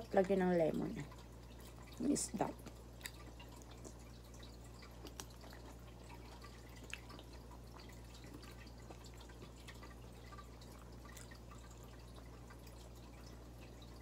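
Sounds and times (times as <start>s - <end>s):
person chewing food: 2.6s - 13.8s.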